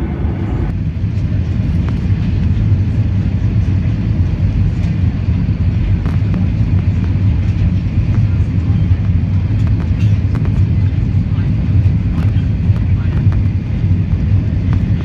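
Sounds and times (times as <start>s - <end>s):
air noise: 0.0s - 15.0s
vehicle rumble: 0.0s - 15.0s.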